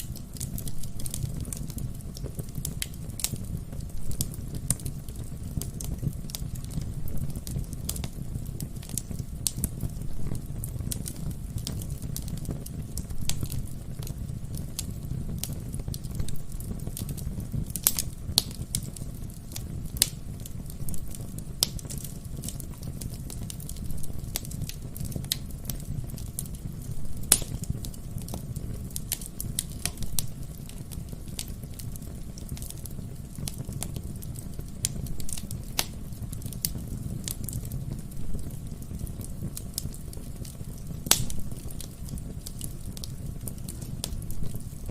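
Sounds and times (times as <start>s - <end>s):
burning logs crackling and popping: 0.0s - 44.9s
low rumble of flames: 0.0s - 44.9s.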